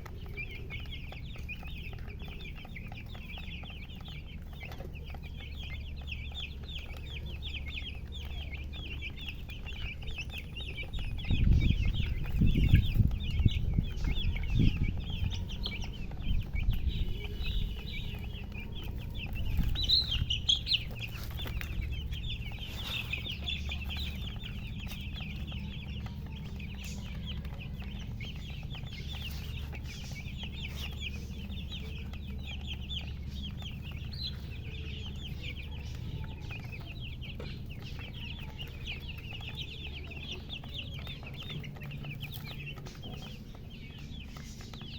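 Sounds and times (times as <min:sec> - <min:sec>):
baby chicks peeping: 0:00.0 - 0:44.9
low rumble and thumps: 0:00.0 - 0:44.9.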